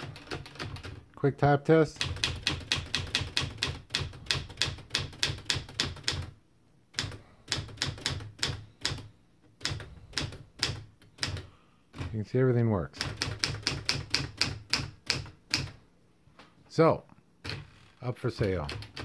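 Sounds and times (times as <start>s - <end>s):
manual typewriter typing: 0.0s - 1.1s, 1.9s - 12.2s, 13.0s - 15.8s, 17.4s - 19.0s.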